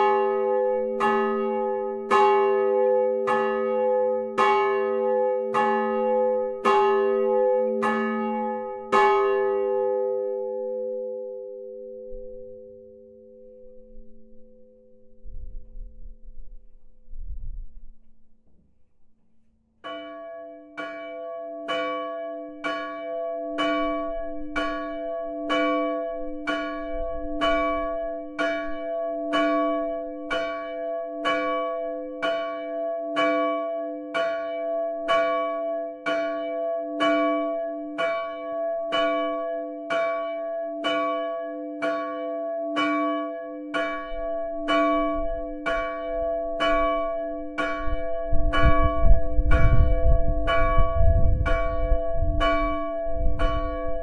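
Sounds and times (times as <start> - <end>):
church bell ringing: 0.0 - 15.4, 19.8 - 54.0.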